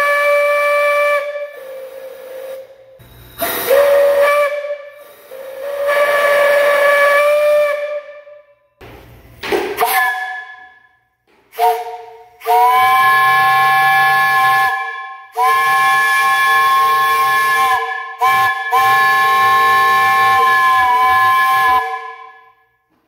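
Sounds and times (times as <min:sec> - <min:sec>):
steam whistle blasts: 0:00.0 - 0:08.7, 0:09.8 - 0:10.9, 0:11.5 - 0:22.7.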